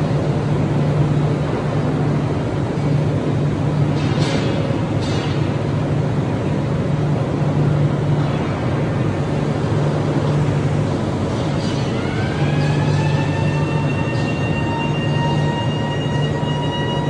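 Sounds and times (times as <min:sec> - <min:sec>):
industrial furnace drone: 0:00.0 - 0:17.0.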